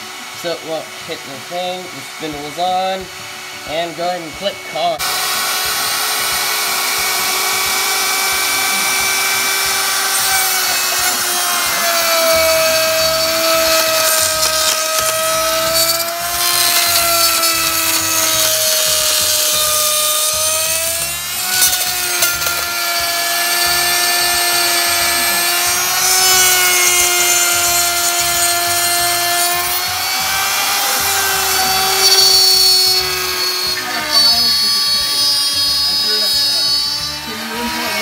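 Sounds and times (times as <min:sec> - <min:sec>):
router bit cutting wood: 0:00.0 - 0:38.0
router motor whining: 0:00.0 - 0:38.0.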